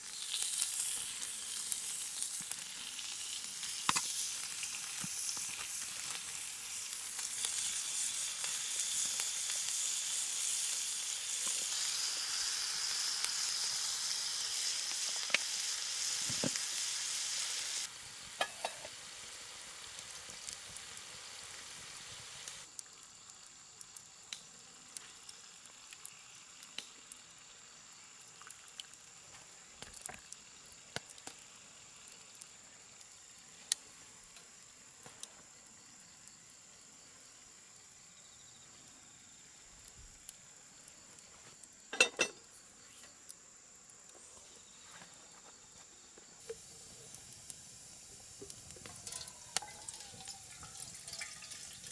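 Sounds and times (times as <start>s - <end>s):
food sizzling in a pan: 0.0s - 51.9s.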